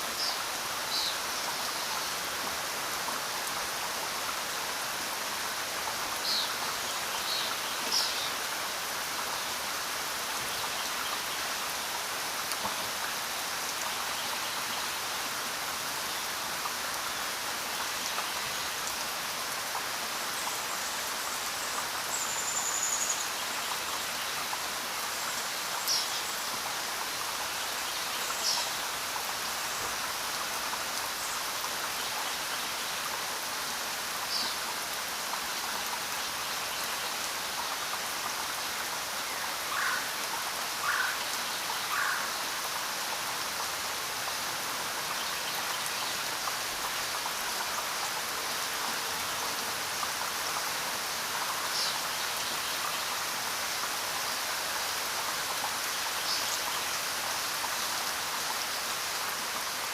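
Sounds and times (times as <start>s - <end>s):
rain on leaves and ground: 0.0s - 59.9s.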